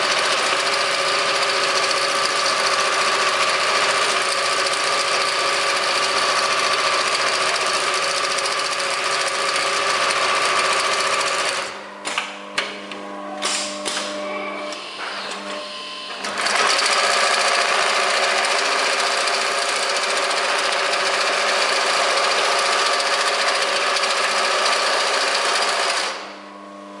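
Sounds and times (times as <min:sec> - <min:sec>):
sewing machine stitching: 0:00.0 - 0:11.7, 0:16.2 - 0:26.2.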